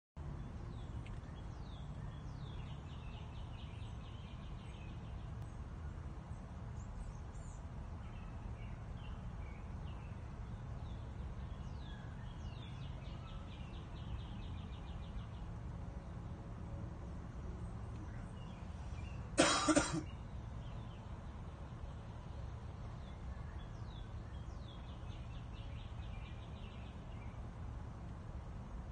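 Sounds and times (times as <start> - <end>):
songbird trills: 0.4 - 16.1, 17.6 - 27.7.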